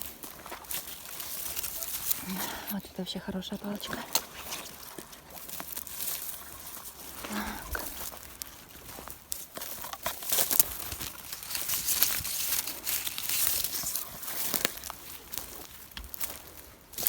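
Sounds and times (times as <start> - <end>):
dry sticks cracking and snapping: 0.0 - 17.0
rustling of dry stalks: 0.0 - 17.0.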